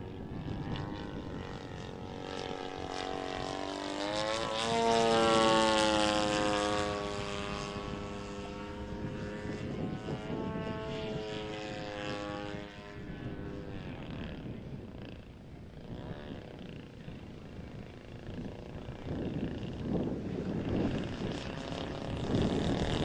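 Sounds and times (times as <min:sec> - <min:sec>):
model airplane propeller drone: 0:00.0 - 0:23.0.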